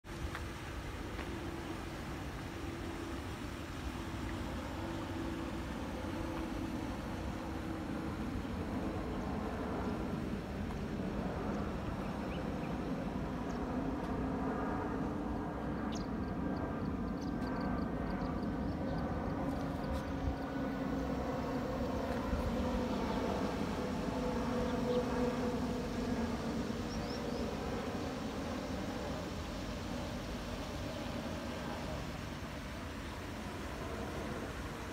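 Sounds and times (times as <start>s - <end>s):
jet engine drone: 0.1s - 34.9s.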